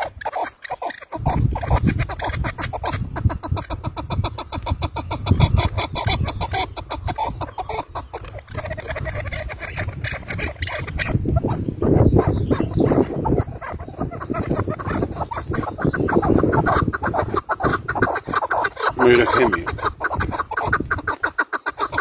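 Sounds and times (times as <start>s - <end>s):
partridge clucking and cackling: 0.0s - 22.0s.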